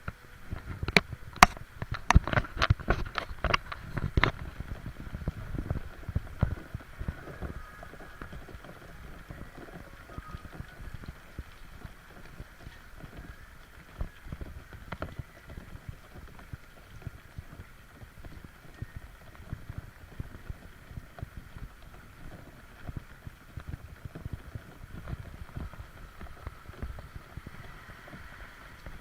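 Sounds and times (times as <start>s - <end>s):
footsteps on wet street: 0.0s - 29.0s
steady background hiss: 0.0s - 29.0s.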